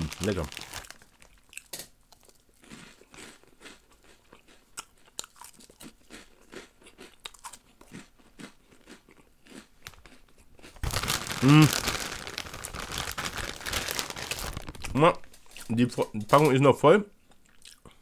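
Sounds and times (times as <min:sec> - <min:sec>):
person chewing crunchy snack: 0:00.0 - 0:15.0, 0:17.4 - 0:18.0.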